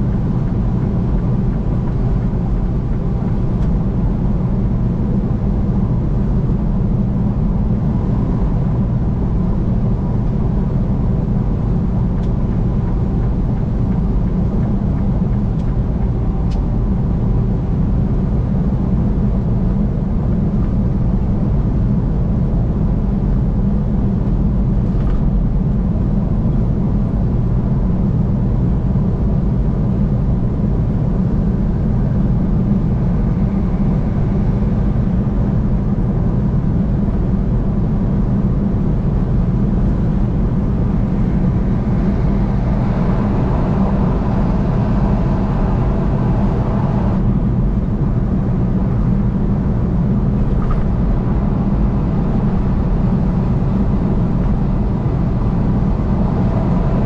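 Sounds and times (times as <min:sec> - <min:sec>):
vehicle driving at highway speed: 0:00.0 - 0:57.0.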